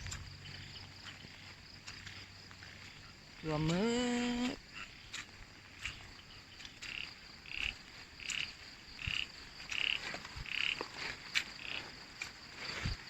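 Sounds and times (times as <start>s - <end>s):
frog croaking: 0.0s - 5.2s, 5.8s - 11.0s, 11.6s - 11.9s
high insect drone: 0.0s - 13.0s.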